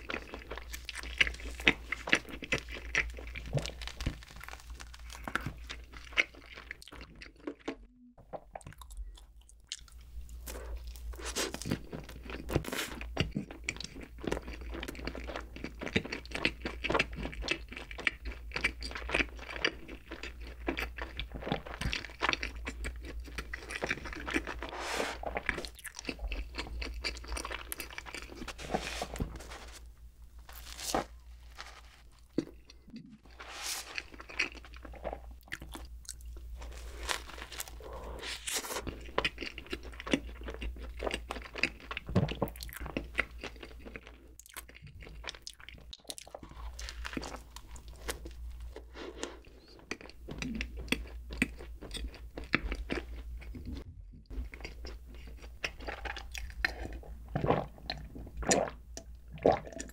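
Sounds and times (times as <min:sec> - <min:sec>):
chewing soft food: 0:00.0 - 0:59.9.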